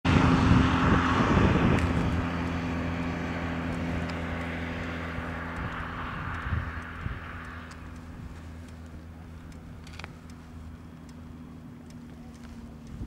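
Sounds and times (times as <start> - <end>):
motorcycle engine idling: 1.7 - 13.0.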